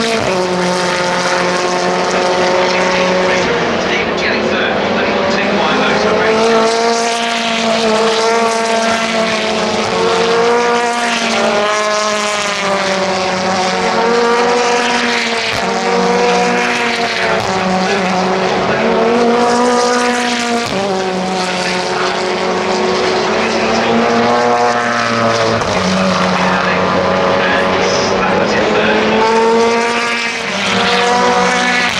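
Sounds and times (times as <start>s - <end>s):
race car engines at full throttle: 0.0s - 31.9s.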